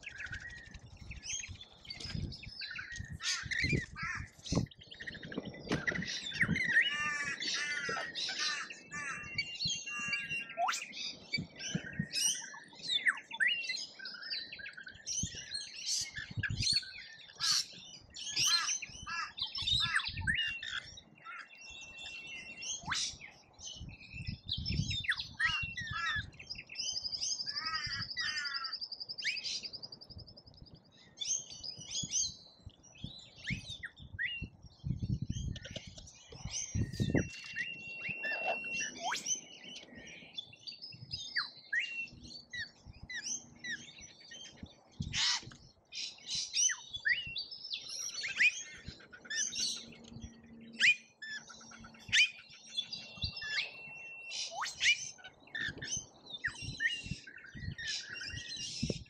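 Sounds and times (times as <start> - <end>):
parrots and birds chirping and squawking: 0.0 - 29.8, 31.0 - 59.0.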